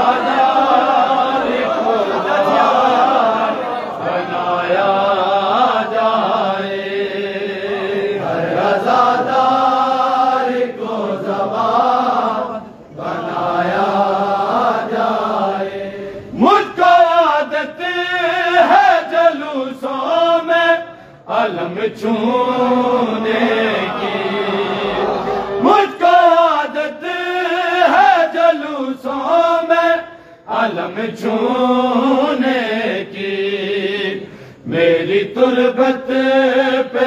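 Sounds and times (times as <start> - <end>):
men chanting a lament: 0.0 - 37.0.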